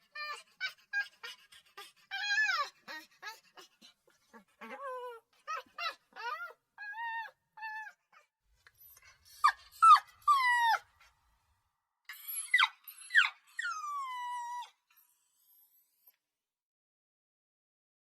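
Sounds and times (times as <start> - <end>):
puppy whimpering and yelping: 0.0 - 11.2, 12.1 - 16.1.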